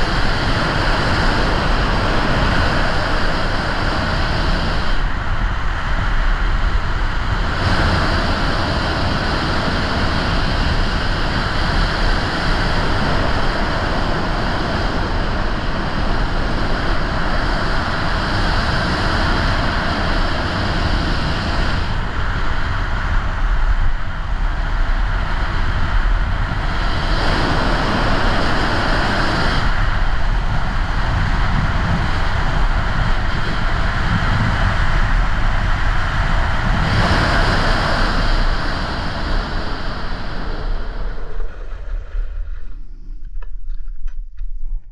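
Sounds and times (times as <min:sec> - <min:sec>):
wind rushing over microphone: 0:00.0 - 0:44.9.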